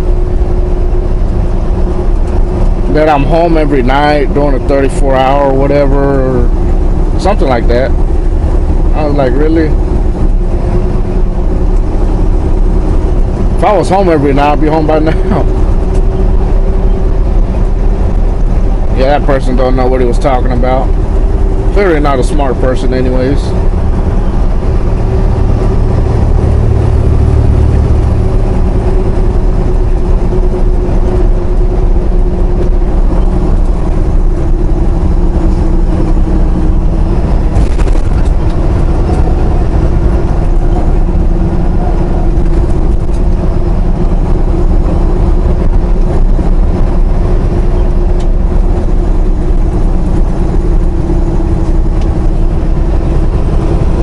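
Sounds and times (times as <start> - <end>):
truck engine drone in cab: 0.0 - 54.0.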